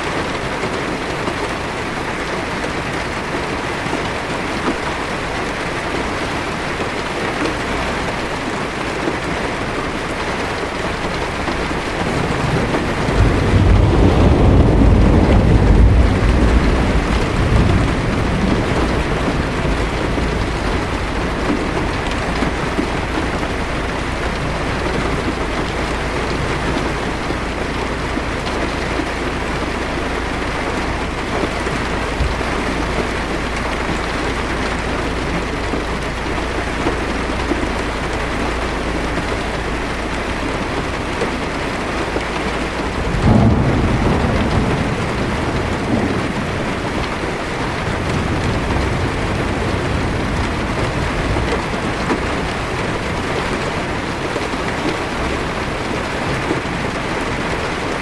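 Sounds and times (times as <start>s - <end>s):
heavy rain on car roof: 0.0s - 58.0s
thunder rolling: 0.0s - 58.0s
low rumble: 10.0s - 57.0s.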